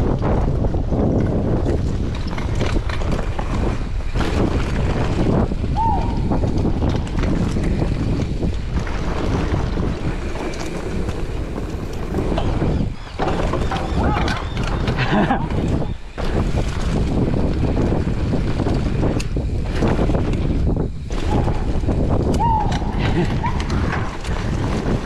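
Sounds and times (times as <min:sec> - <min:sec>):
bike knocking and rattling: 0:00.0 - 0:25.0
tyres rolling over dirt: 0:00.0 - 0:25.0
wind buffeting microphone: 0:00.0 - 0:25.0.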